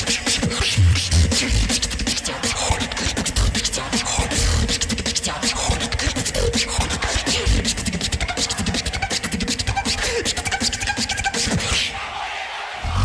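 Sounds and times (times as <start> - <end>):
person beatboxing: 0.0 - 12.0.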